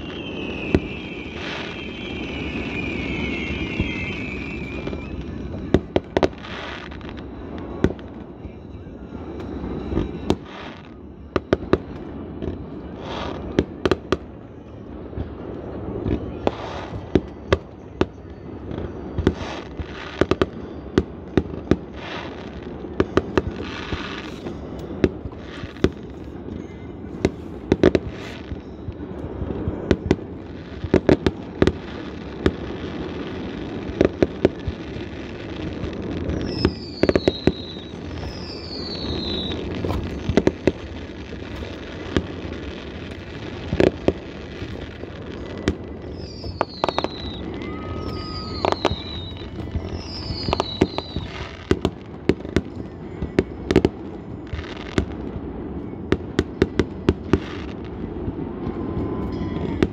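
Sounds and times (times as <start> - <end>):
falling firework whistles: 0.0 - 59.9
fireworks bursting with sharp bangs: 0.0 - 59.9.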